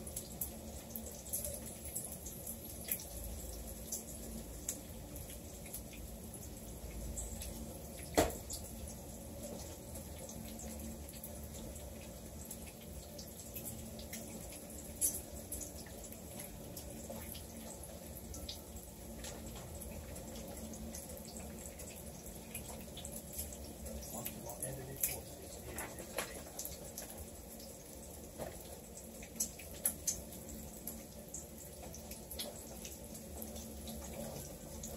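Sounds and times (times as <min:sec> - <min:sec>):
food sizzling in oil: 0:00.0 - 0:34.9.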